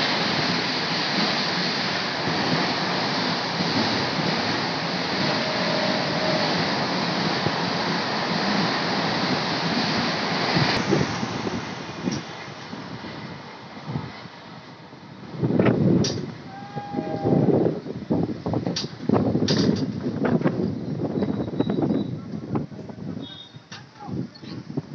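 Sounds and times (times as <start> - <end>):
rushing air: 0.0 - 21.8
train wheels on rail: 0.0 - 24.9.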